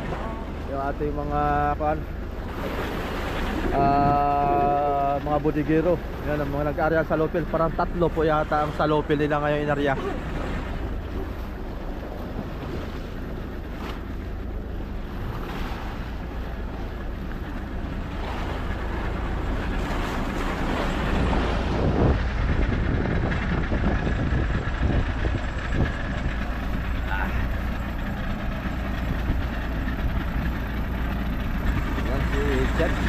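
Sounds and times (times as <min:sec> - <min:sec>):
boat engine droning: 0:00.0 - 0:33.0
water noise: 0:00.0 - 0:33.0
wind: 0:00.0 - 0:33.0.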